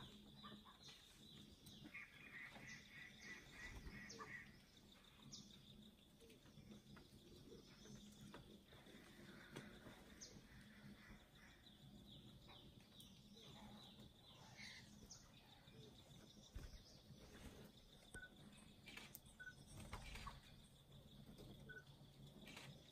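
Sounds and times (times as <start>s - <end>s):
distant bird chirps: 0.0s - 22.9s.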